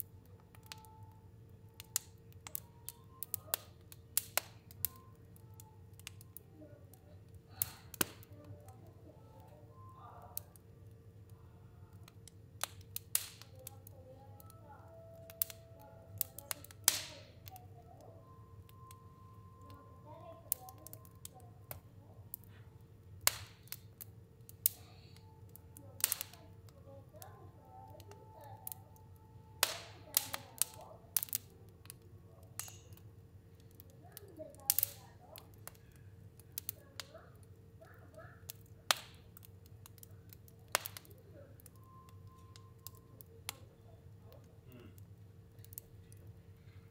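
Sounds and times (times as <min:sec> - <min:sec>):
faint steady hum: 0:00.0 - 0:46.9
fire crackling in a stove: 0:00.0 - 0:46.9.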